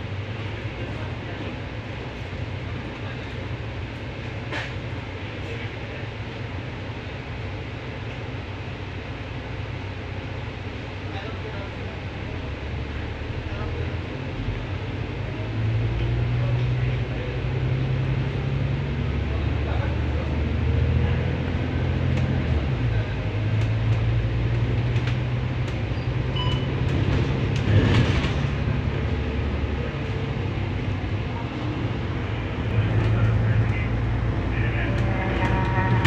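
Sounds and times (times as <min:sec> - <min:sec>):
bus engine rumbling: 0:00.0 - 0:36.0.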